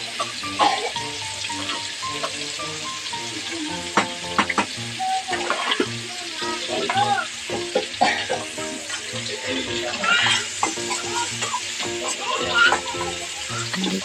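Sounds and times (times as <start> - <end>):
eggs sizzling in hot oil: 0.0 - 14.0.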